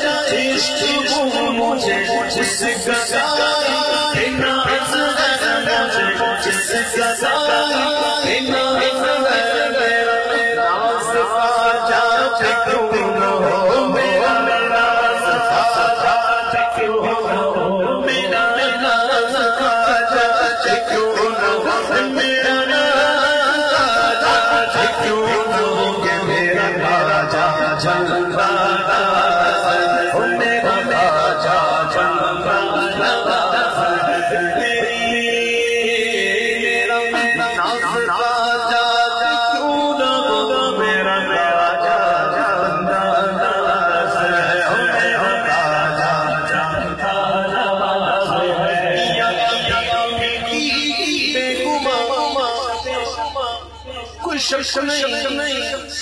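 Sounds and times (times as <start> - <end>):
man singing into microphone: 0.0 - 56.0.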